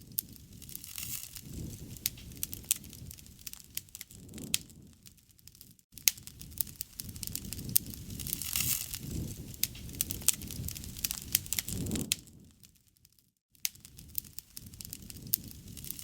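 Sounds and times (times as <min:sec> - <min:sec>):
sharp fire pops: 0:00.0 - 0:12.8, 0:13.6 - 0:16.0
campfire crackling: 0:00.0 - 0:13.0, 0:13.6 - 0:16.0
low rumble of burning: 0:00.0 - 0:13.0, 0:13.6 - 0:16.0.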